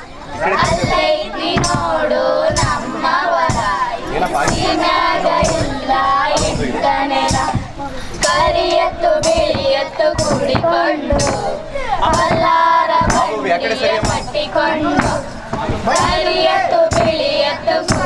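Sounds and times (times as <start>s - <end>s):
children singing: 0.0s - 18.0s
music: 0.5s - 18.0s.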